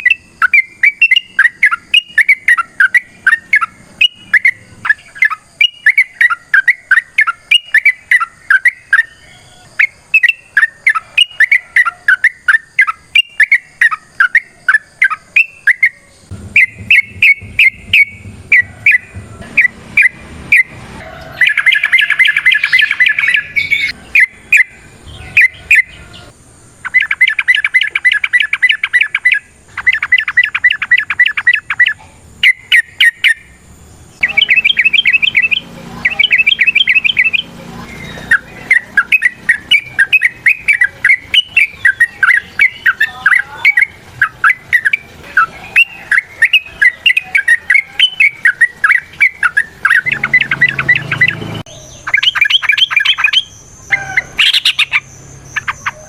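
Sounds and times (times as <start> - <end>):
bulbul chattering calls: 0.0 - 33.5, 34.2 - 56.0.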